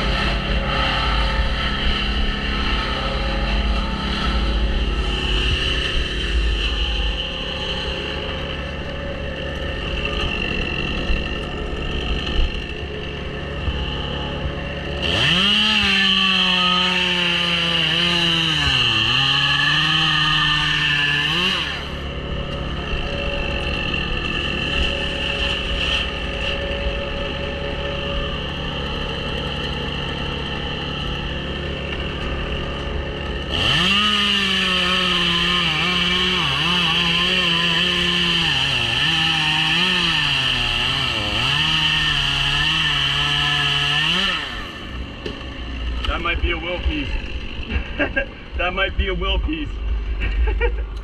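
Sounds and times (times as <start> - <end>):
chainsaw cutting wood: 0.0 - 49.1.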